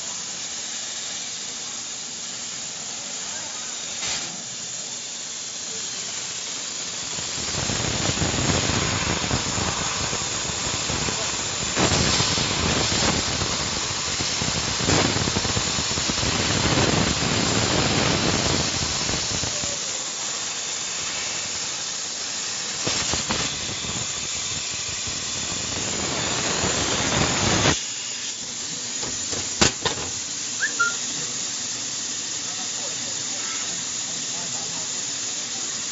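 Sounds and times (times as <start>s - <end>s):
air hissing from laser cutter: 0.0s - 35.9s.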